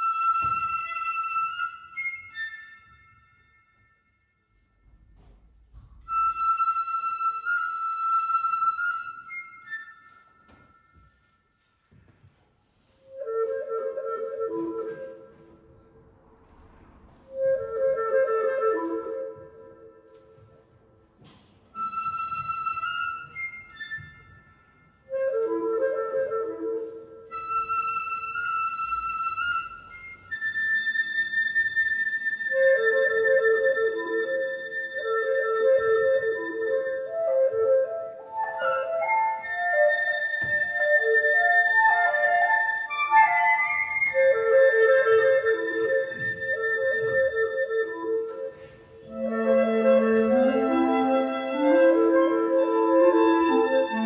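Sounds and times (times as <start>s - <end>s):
flute and clarinets trio: 0.0s - 3.7s, 5.1s - 11.8s, 12.8s - 21.1s, 21.7s - 54.0s.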